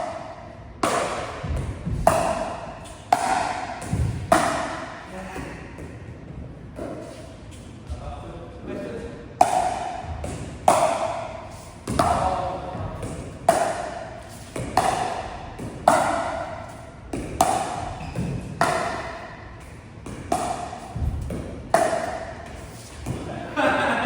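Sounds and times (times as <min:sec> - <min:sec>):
paddles hitting pickleball: 0:00.0 - 0:06.0, 0:09.4 - 0:23.4.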